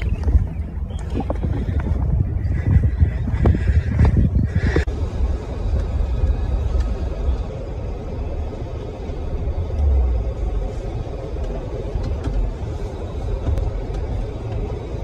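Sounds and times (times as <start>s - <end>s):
car tyre and road rumble: 0.0s - 15.0s.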